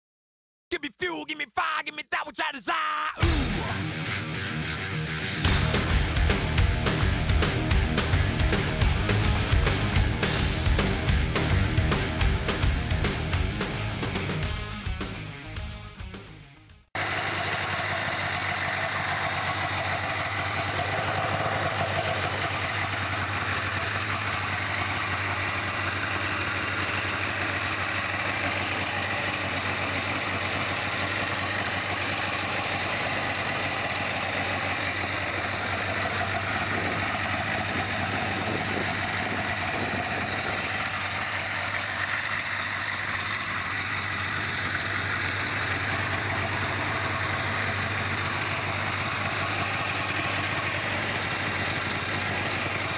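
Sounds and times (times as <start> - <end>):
snowmobile engine idling: 3.2 - 15.0, 17.0 - 52.9.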